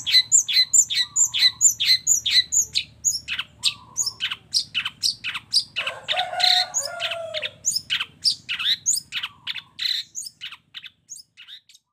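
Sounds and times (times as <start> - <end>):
bird chattering song: 0.0 - 11.9
mixed calls and warbling: 0.0 - 11.9.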